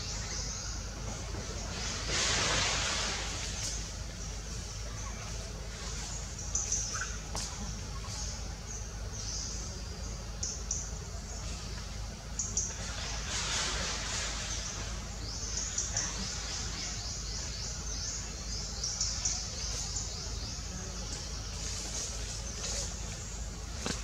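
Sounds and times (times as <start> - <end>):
low background hum: 0.0 - 24.0
small birds chirping: 0.0 - 24.0.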